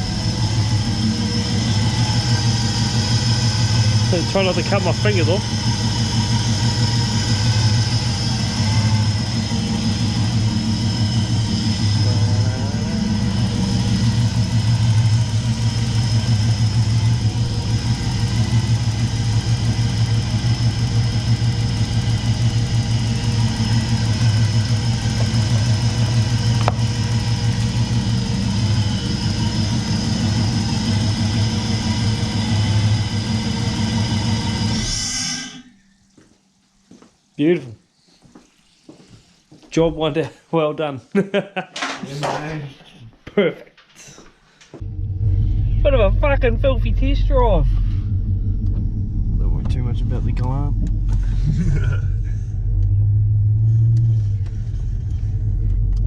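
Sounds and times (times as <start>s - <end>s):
car engine idling: 0.0s - 35.0s, 44.8s - 56.0s.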